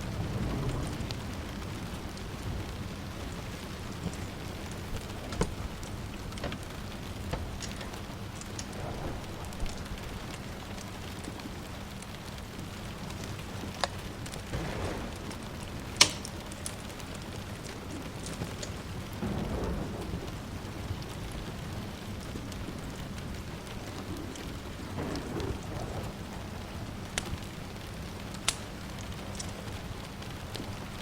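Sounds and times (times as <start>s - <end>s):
distant thunder rolling: 0.0s - 31.0s
steady rain: 0.0s - 31.0s
wood fire crackling and popping: 0.0s - 31.0s.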